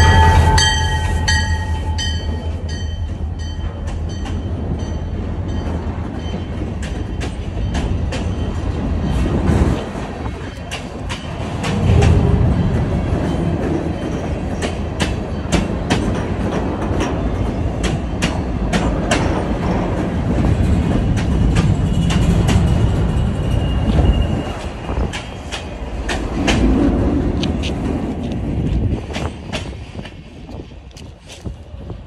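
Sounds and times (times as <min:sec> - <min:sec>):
wheels clacking over rail joints: 0:00.0 - 0:31.4
steel wheels rumbling on rail: 0:00.0 - 0:32.0.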